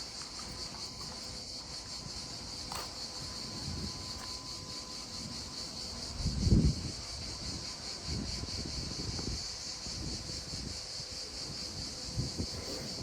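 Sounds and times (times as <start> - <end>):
insects chirping: 0.0 - 13.0
low wind rumble: 0.0 - 13.0
wind buffeting microphone: 0.0 - 13.0.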